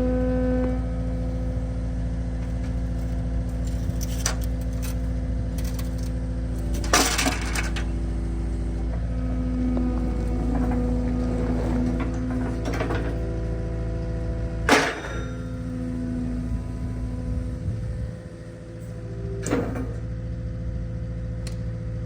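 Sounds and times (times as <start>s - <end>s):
engine running steadily: 0.0s - 22.0s
clanking clatter: 2.4s - 20.2s.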